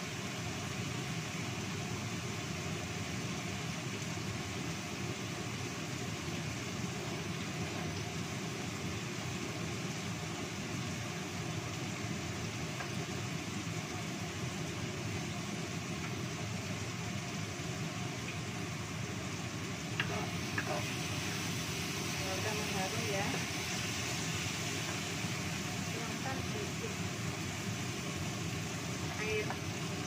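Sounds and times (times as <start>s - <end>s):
spice paste sizzling in oil: 0.0s - 30.0s.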